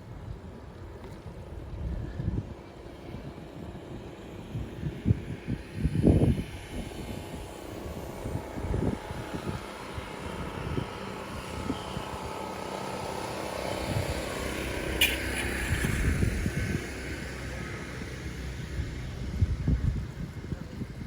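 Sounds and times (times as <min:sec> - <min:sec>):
steady engine drone: 0:00.0 - 0:21.0
wind rumbling on microphone: 0:00.0 - 0:21.0.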